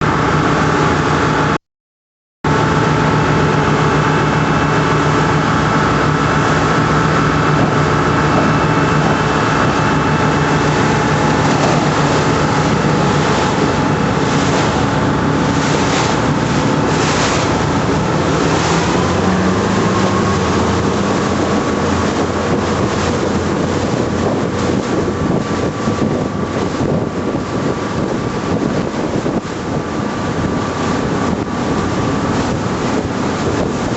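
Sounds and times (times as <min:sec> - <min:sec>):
boat engines running: 0:00.0 - 0:01.6, 0:02.5 - 0:33.9
rushing water: 0:02.5 - 0:33.9
wind buffeting microphone: 0:02.5 - 0:33.9.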